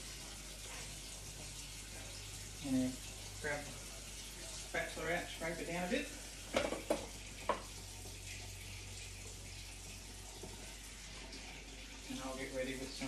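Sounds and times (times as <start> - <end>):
kitchen tap running: 0.0 - 13.0.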